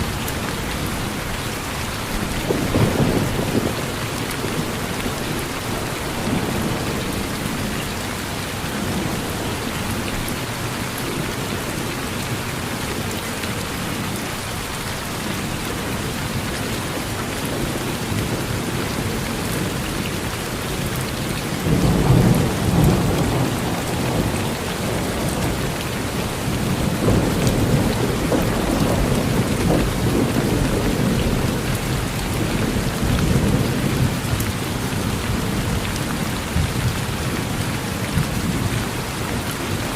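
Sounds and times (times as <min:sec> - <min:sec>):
thunder rumbling: 0:00.0 - 0:11.8, 0:17.5 - 0:39.9
steady rain falling: 0:00.0 - 0:39.9.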